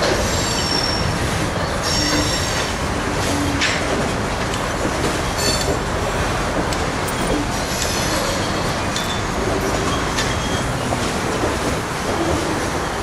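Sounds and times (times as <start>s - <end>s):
train wheels rolling on rail: 0.0s - 13.0s.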